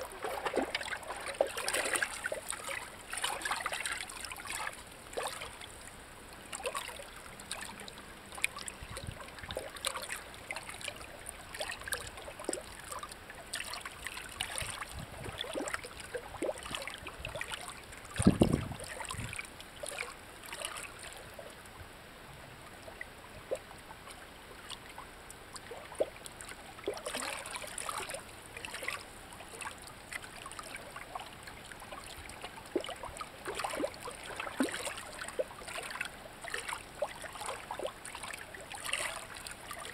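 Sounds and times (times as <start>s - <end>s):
water plinks and drips: 0.0s - 21.7s, 22.9s - 39.9s
water trickling among rocks: 0.0s - 21.7s, 22.7s - 39.9s.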